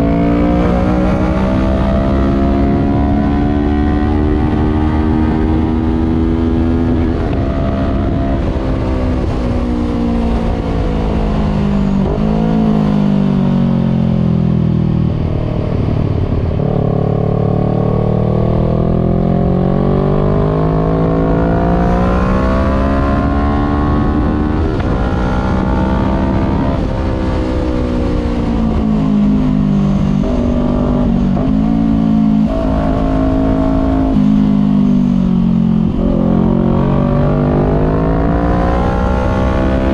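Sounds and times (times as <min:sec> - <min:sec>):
motorcycle engine revving: 0:00.0 - 0:14.2, 0:15.2 - 0:39.9.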